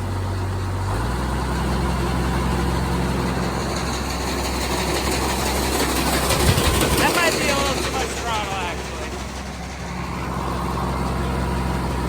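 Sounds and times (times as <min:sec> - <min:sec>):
farm machinery engine running: 0:00.0 - 0:12.0.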